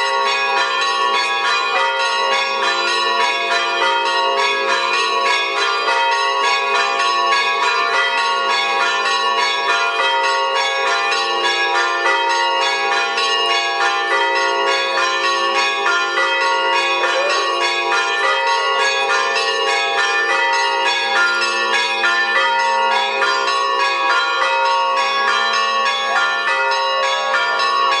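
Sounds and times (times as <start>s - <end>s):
church bells pealing: 0.0s - 28.0s.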